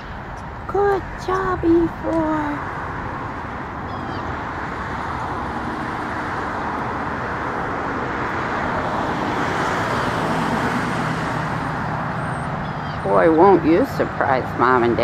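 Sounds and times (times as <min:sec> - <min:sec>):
passing vehicles rushing: 0:00.0 - 0:15.0.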